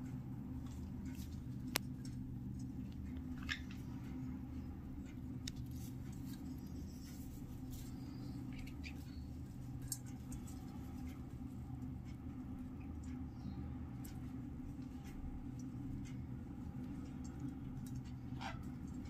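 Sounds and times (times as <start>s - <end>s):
steady low hum: 0.0s - 19.0s
birds chewing nest toy: 0.6s - 19.0s.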